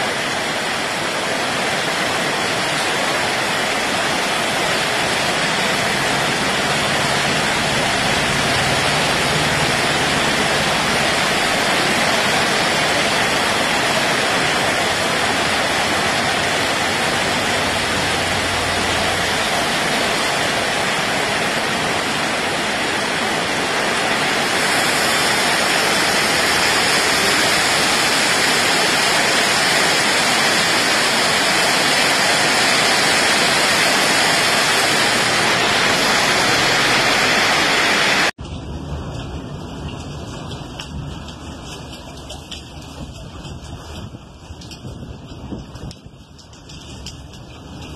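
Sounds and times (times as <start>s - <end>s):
heavy rain pouring on trees: 0.0s - 47.9s.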